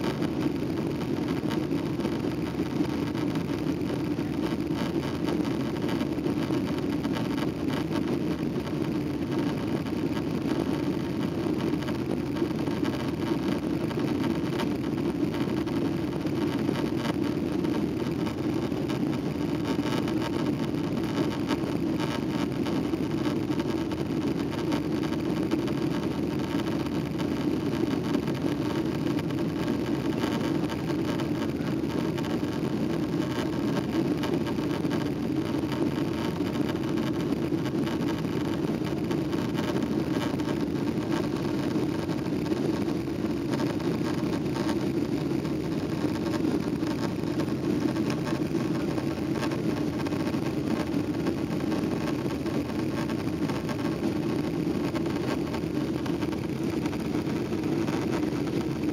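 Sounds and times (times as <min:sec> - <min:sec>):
jet engine noise in cabin: 0:00.0 - 0:58.9.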